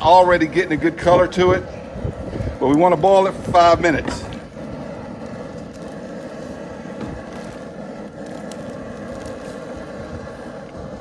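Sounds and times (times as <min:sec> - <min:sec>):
fire rumbling under a pot: 0:00.0 - 0:11.0.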